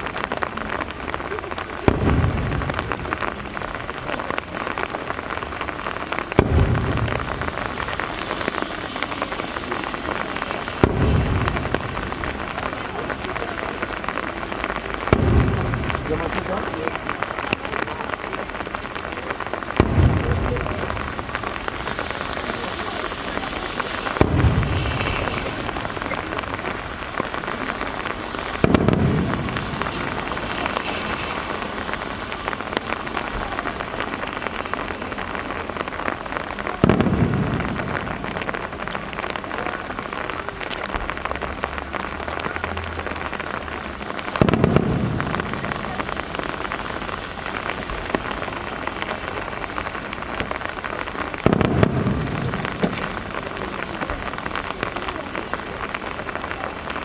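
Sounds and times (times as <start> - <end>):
rain hiss: 0.0 - 57.0
firework shells bursting: 4.6 - 17.9, 18.5 - 39.5, 44.2 - 56.4.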